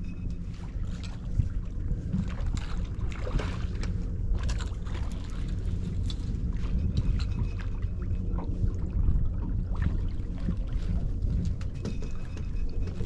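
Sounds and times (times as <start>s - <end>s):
boat engine rumble: 0.0s - 13.0s
wind on microphone: 0.0s - 13.0s.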